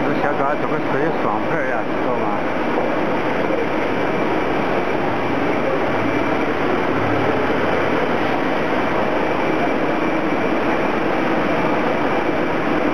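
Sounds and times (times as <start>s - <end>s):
faint high whine: 0.0s - 12.9s
production line machinery running: 0.0s - 12.9s.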